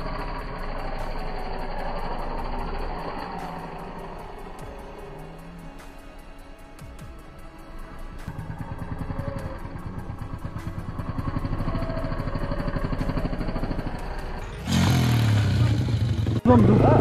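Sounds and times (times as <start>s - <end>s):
motorcycle engine throbbing: 0.0s - 17.0s.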